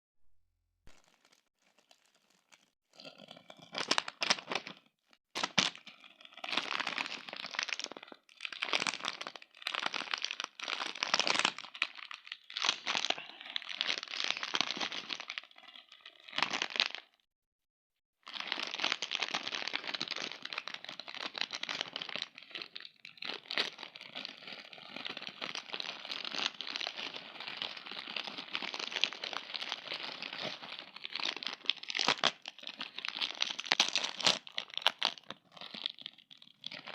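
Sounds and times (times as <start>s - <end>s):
plastic wrappers crinkling and tearing: 0.9s - 2.8s, 5.4s - 17.1s, 18.3s - 36.9s.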